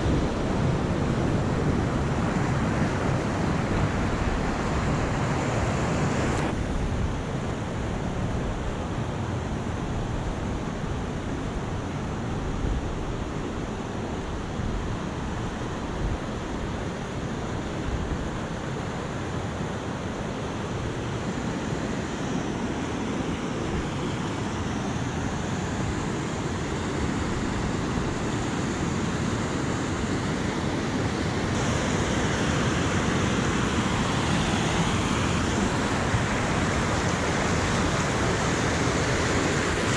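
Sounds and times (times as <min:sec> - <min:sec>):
river rushing over rocks: 0:00.0 - 0:39.9
wind rumble on microphone: 0:00.0 - 0:39.9.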